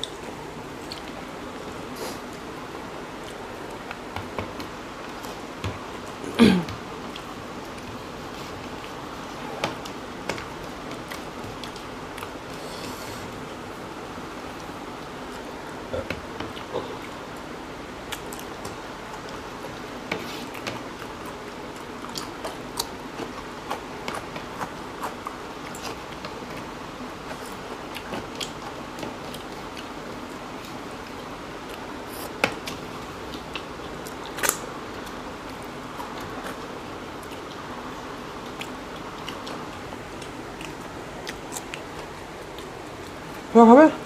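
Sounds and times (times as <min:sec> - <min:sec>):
people chewing: 0:00.0 - 0:43.5
background hiss: 0:00.0 - 0:44.0.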